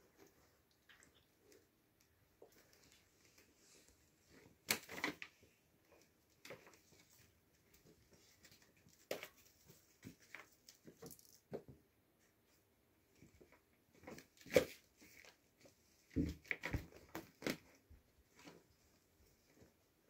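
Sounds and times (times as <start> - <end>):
cats rustling on fabric bed: 0.0 - 11.0, 12.1 - 20.0.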